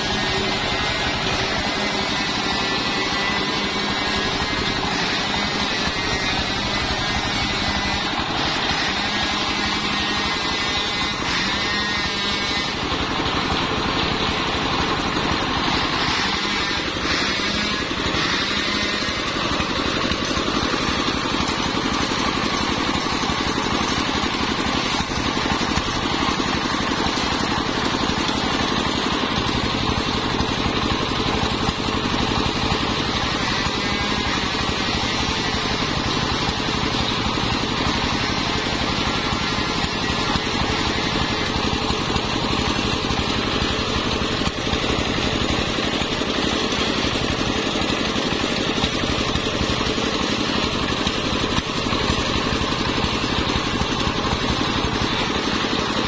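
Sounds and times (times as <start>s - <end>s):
circular saw cutting log: 0.0s - 56.0s
diesel engine running: 0.0s - 56.0s.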